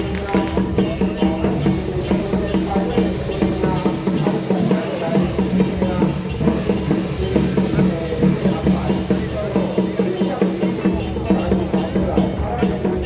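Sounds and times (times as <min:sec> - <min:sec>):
drum beat: 0:00.0 - 0:13.0.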